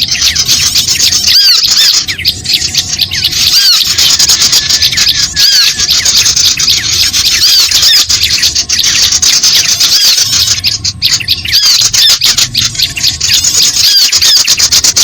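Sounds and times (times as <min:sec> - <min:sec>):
looping high bird call: 0:00.0 - 0:15.0
rapid high bird chips: 0:00.0 - 0:15.0.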